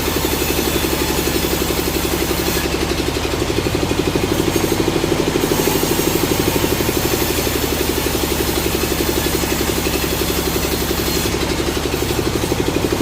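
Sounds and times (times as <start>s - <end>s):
engine running with pulsing beat: 0.0s - 13.0s.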